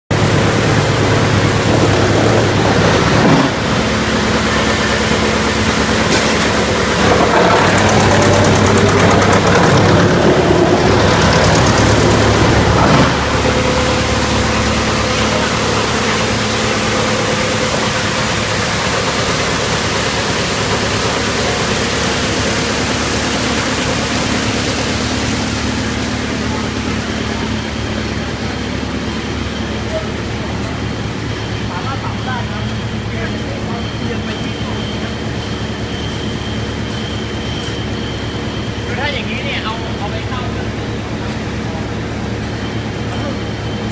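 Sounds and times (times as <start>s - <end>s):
wood chipper running: 0.1s - 43.9s.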